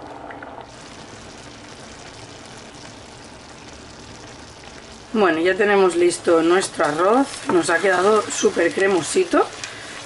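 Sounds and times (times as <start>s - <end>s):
rice simmering in stock: 0.0s - 10.0s.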